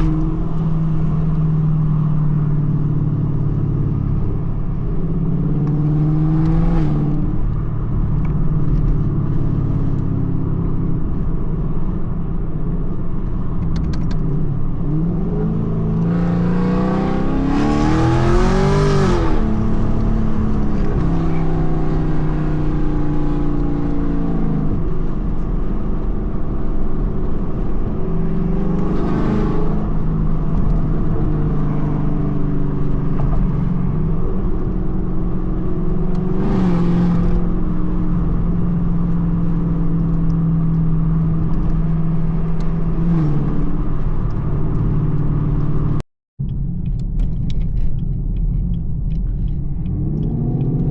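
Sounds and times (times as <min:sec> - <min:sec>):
car engine accelerating through gears: 0:00.0 - 0:50.9.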